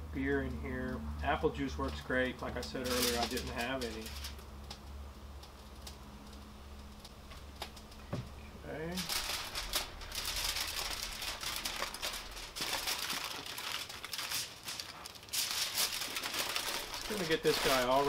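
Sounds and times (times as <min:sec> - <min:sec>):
aluminium foil crinkling: 0:00.2 - 0:18.0.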